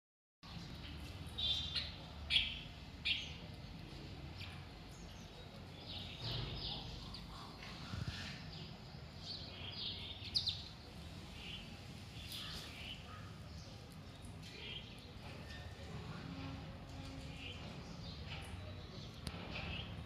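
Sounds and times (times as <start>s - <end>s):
birds chirping: 0.5s - 20.0s.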